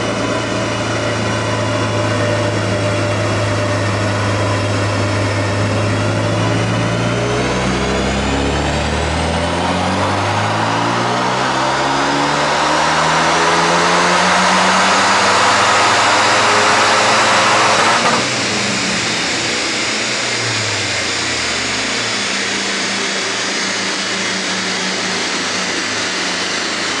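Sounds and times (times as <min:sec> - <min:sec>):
car engine revving under load: 0:00.0 - 0:26.8
steady whirring rush: 0:00.0 - 0:27.0.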